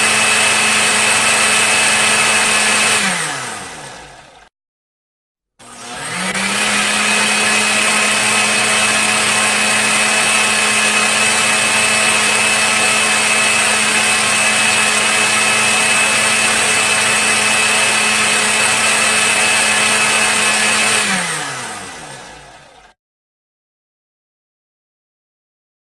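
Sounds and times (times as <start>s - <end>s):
blender motor whining: 0.0s - 4.5s, 5.6s - 23.0s.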